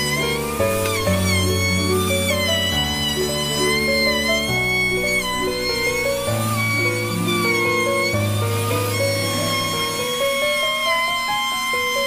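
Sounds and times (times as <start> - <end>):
steady high held tone: 0.0 - 12.0.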